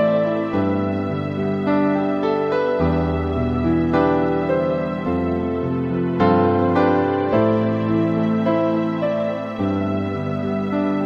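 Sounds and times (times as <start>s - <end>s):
gentle music with sustained chords: 0.0s - 11.0s.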